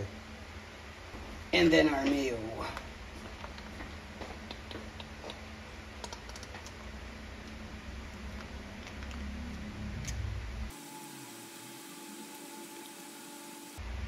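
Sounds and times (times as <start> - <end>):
steady faint hum: 0.0 - 14.0.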